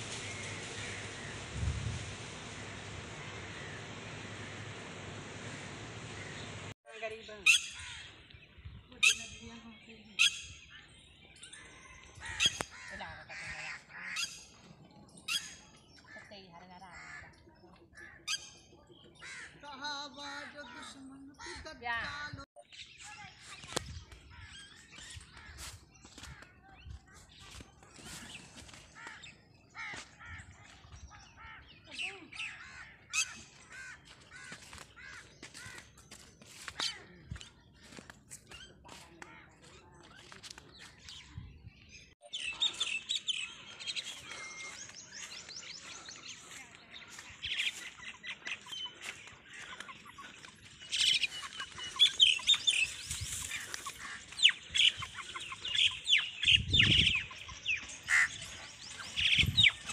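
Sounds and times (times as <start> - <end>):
harsh bird calls: 10.1 - 21.8, 22.8 - 59.9.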